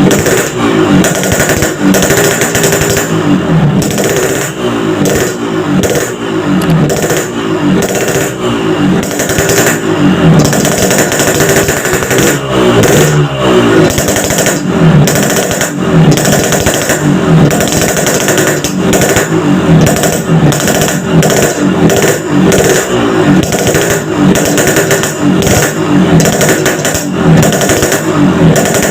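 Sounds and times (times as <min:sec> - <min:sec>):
two-stroke motorcycle engine revving: 0:00.0 - 0:28.9.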